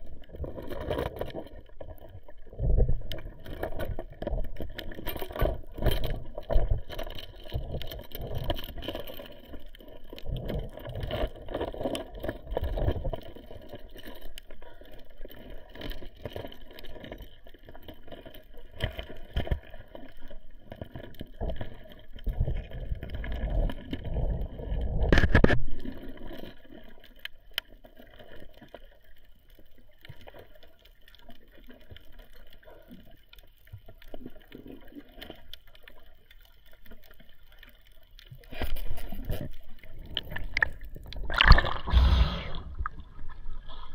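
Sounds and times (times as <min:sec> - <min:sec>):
underwater water rushing and bubbling: 0:00.0 - 0:43.9.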